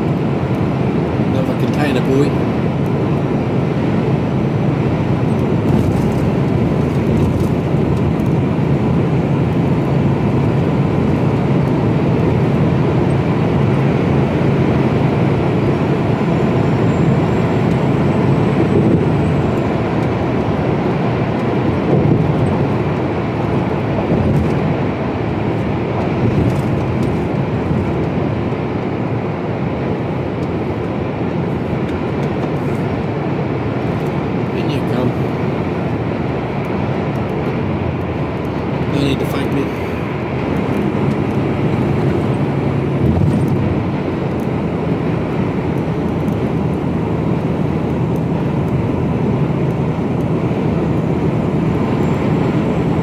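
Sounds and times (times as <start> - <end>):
lorry diesel engine drone: 0.0 - 53.0
passing lorry: 0.0 - 53.0.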